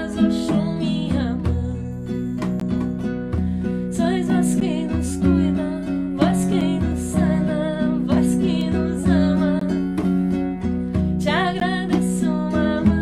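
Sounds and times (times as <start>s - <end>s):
person singing: 0.0s - 2.5s, 3.6s - 10.2s, 11.2s - 13.0s
acoustic guitar strumming: 0.0s - 13.0s
hand drum beat: 0.0s - 13.0s.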